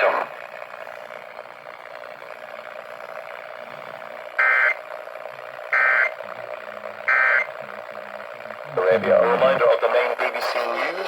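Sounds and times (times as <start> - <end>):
radio hiss: 0.0 - 1.5, 2.3 - 11.0.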